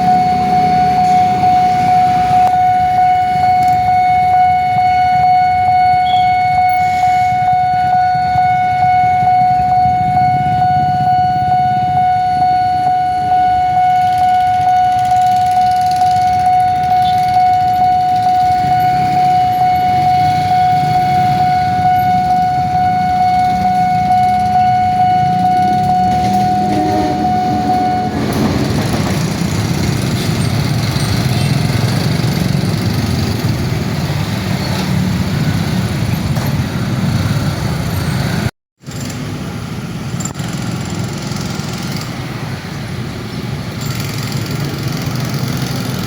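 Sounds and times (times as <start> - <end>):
level crossing alarm tone: 0.0 - 38.5.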